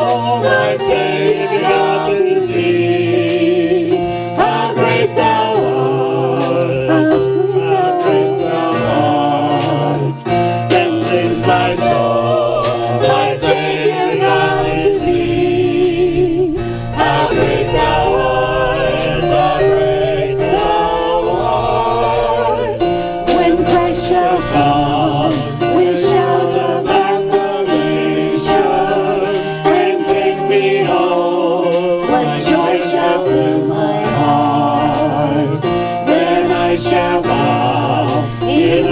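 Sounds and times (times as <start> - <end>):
worship singing with instruments: 0.0 - 38.9.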